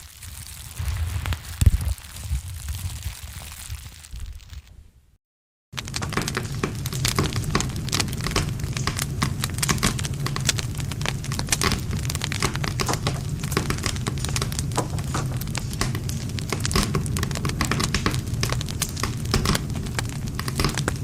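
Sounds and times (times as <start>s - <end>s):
burning wood snapping and popping: 0.0s - 4.7s, 5.8s - 21.0s
low rumble of flames: 0.0s - 5.1s, 5.8s - 21.0s.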